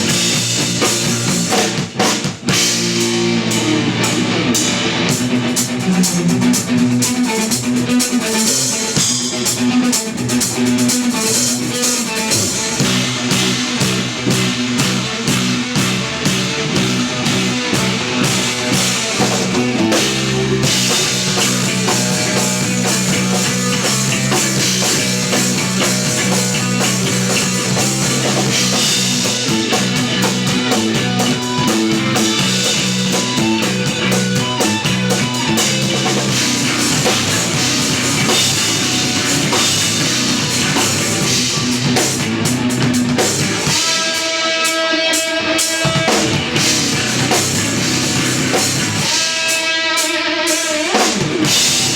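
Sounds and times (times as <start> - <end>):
electric bass: 0.0 - 44.2, 45.8 - 49.4, 51.1 - 51.9
drum kit: 0.0 - 51.9
electric guitar: 0.0 - 51.9.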